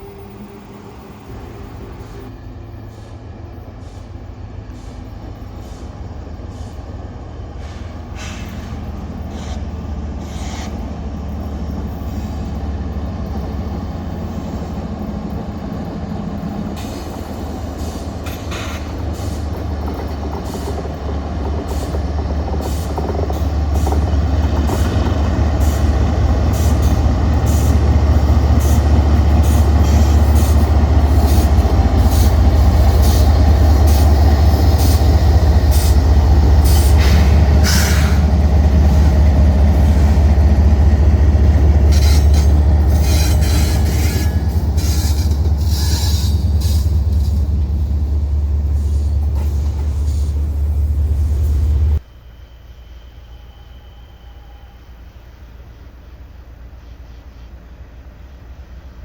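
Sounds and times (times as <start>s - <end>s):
locomotive engine rumble: 0.0s - 52.1s
train wheels clicking on rails: 2.9s - 52.0s.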